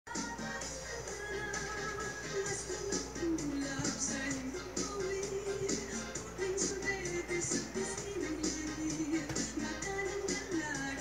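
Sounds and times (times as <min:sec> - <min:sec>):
dance music with steady beat: 0:00.1 - 0:11.0.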